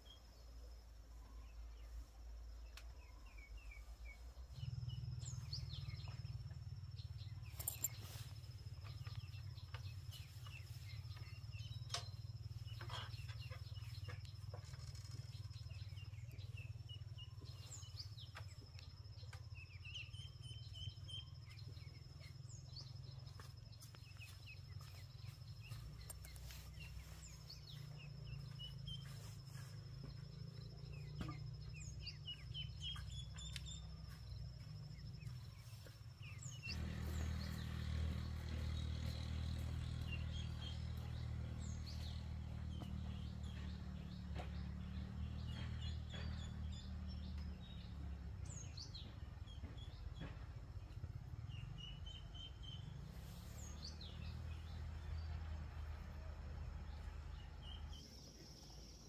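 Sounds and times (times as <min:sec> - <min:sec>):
bird chirps: 0:00.0 - 0:59.0.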